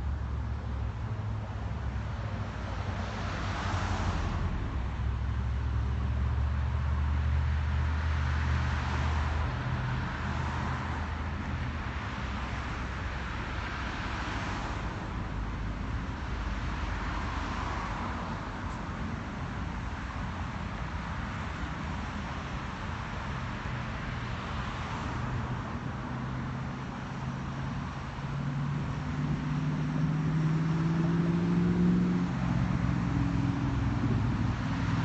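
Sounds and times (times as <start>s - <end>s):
cars passing: 0.0s - 35.0s
steady low traffic rumble: 0.0s - 35.0s.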